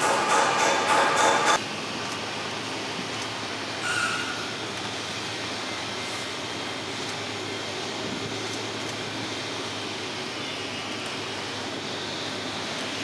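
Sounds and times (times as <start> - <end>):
ship engines droning: 0.0 - 13.0
ventilation fans: 0.0 - 13.0.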